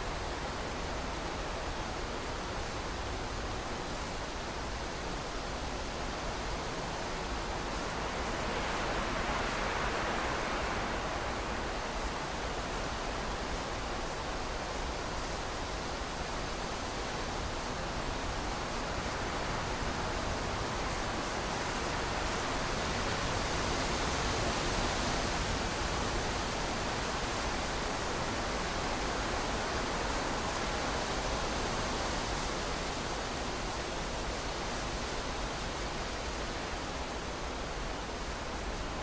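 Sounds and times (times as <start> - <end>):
steady hiss: 0.0 - 39.0.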